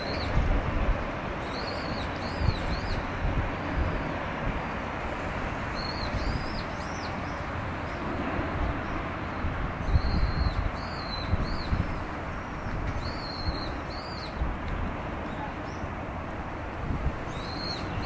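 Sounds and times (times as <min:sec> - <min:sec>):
gusty low rumble: 0:02.3 - 0:18.0.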